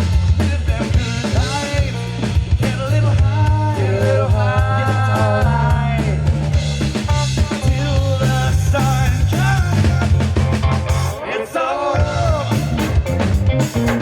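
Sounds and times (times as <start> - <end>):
drum kit beat: 0.0 - 11.2, 12.0 - 14.0
bass guitar line: 0.0 - 14.0
electric guitar: 0.0 - 14.0.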